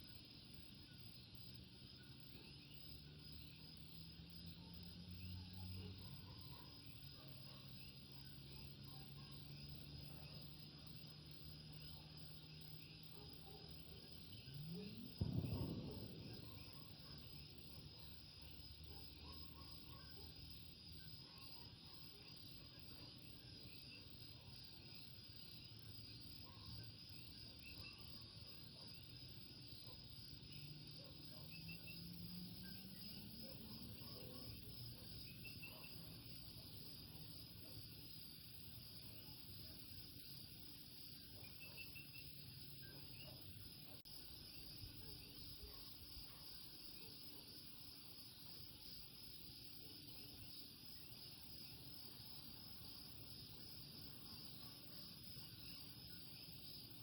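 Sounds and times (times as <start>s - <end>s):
insects trilling: 0.0s - 26.5s, 29.3s - 57.0s.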